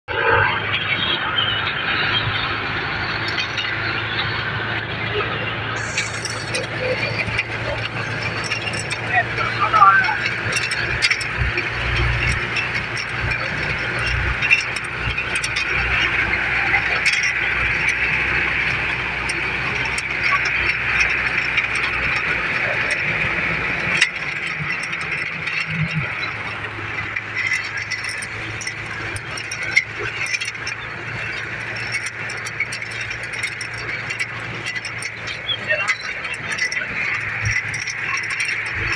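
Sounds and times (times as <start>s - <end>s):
vehicle running noise: 0.0s - 38.9s
sharp rattling knocks: 5.8s - 38.9s.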